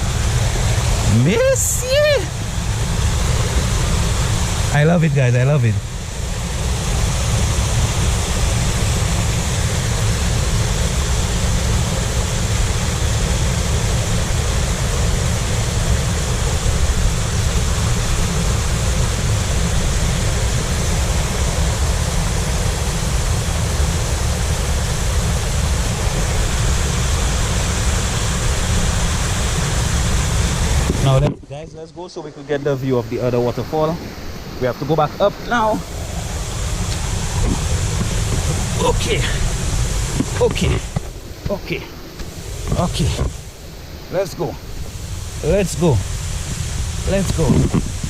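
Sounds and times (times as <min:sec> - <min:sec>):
waterfall rushing: 0:00.0 - 0:31.3, 0:32.0 - 0:48.0.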